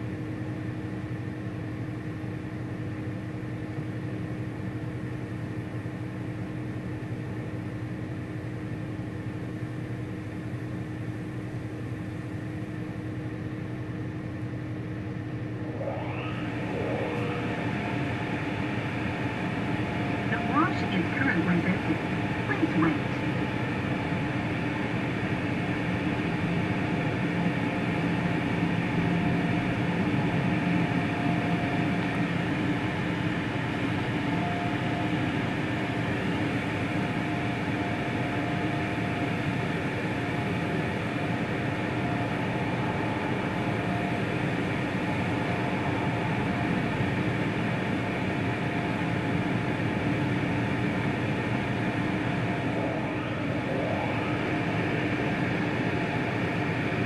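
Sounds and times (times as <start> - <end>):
machine hum: 4.3 - 57.0.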